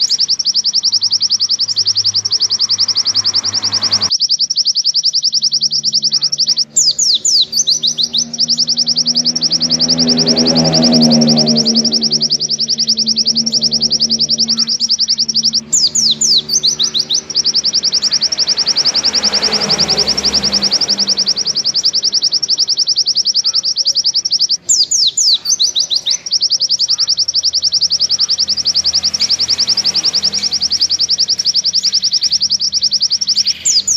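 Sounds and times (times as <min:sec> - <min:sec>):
bird singing high trills: 0:00.0 - 0:33.9
downward-sweeping bird notes: 0:00.0 - 0:33.9.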